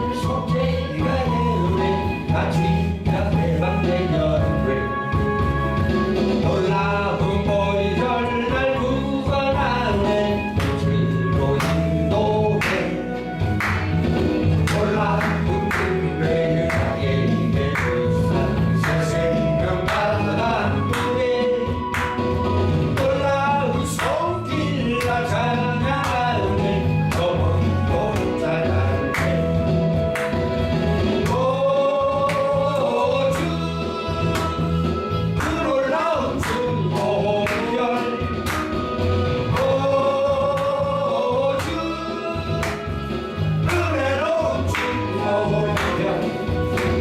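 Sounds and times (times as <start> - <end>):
band with drums and bass: 0.0 - 47.0
gospel singing: 0.0 - 47.0.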